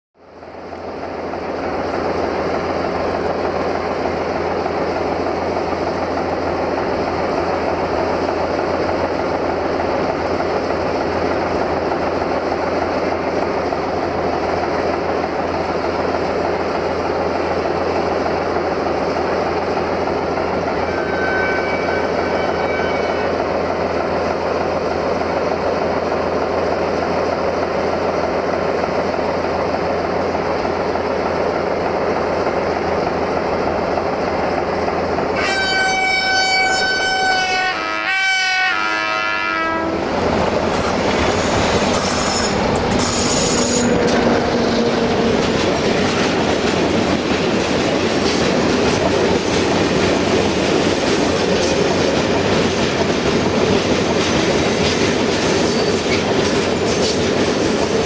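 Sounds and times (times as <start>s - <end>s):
diesel locomotive engine rumbling: 0.2s - 58.0s.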